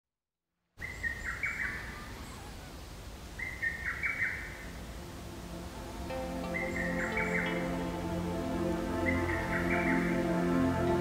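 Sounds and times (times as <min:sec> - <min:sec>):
low outdoor hum: 0:00.8 - 0:11.0
songbird singing clear notes: 0:00.8 - 0:11.0.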